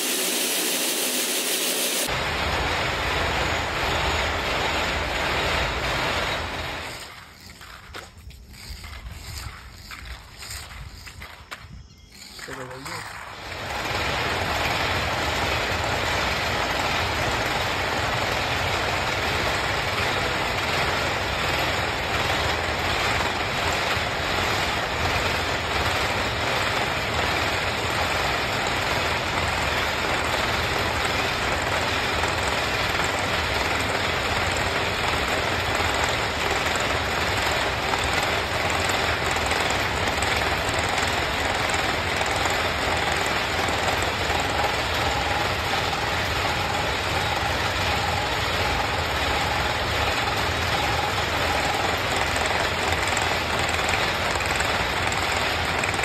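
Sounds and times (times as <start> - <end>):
machine mechanical clatter: 0.0 - 56.0.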